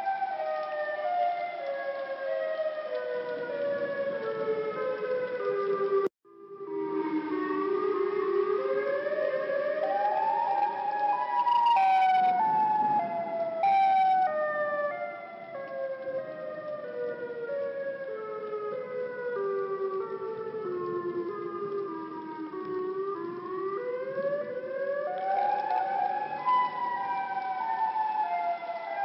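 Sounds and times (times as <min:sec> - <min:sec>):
warning siren wailing: 0:00.0 - 0:29.0.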